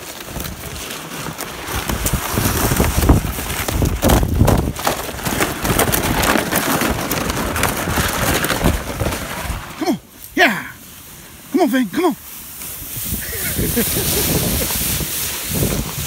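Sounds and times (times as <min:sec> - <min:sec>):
wind noise on microphone: 0:00.0 - 0:09.8, 0:12.6 - 0:16.0
footsteps crunching in snow: 0:00.0 - 0:16.0
plastic sled scraping over snow: 0:00.0 - 0:16.0.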